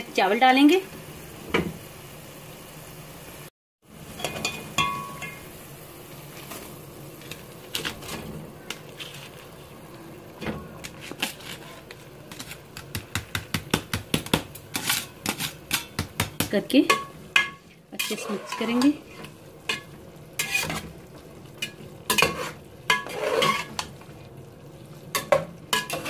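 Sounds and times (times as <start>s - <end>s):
syrup boiling in metal pot: 3.4s - 26.0s.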